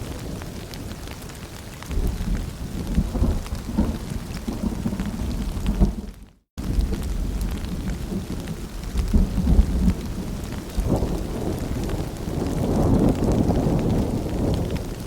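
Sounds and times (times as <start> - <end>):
rain pattering and dripping: 0.0 - 15.0
thunder rumbling: 1.9 - 15.0.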